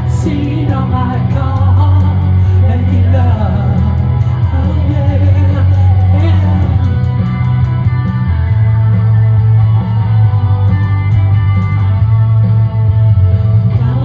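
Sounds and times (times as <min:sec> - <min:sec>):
electric guitar playing: 0:00.0 - 0:14.0
loud bass line: 0:00.0 - 0:14.0.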